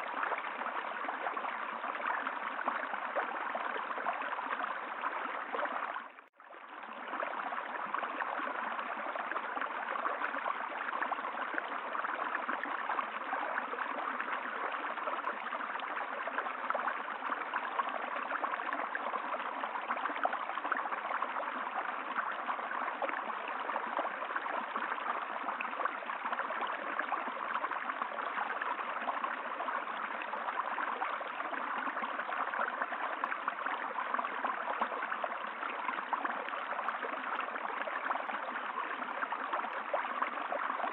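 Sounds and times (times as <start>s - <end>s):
stream water rushing and babbling: 0.0s - 40.9s.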